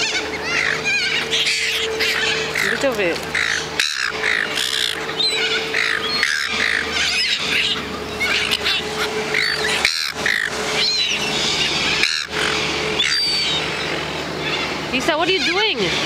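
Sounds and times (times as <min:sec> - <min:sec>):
birds chirping and calling: 0:00.0 - 0:16.0
faint steady hum: 0:00.0 - 0:16.0.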